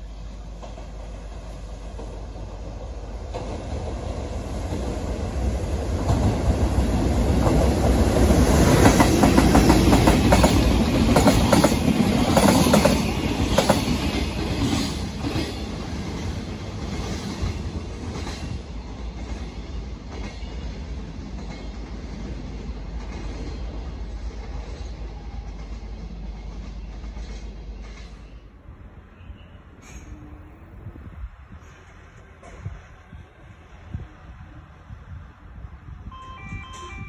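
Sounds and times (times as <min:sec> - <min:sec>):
freight train passing: 0:00.0 - 0:37.0
wheels clickety-clack over rail joints: 0:00.4 - 0:28.5, 0:31.3 - 0:33.3.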